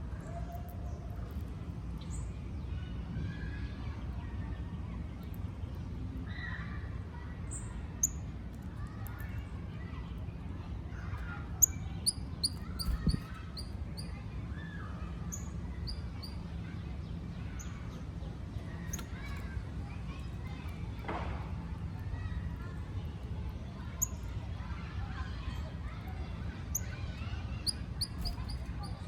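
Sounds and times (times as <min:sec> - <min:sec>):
small birds chirping: 0:00.0 - 0:29.0
steady low background hum: 0:00.0 - 0:29.0.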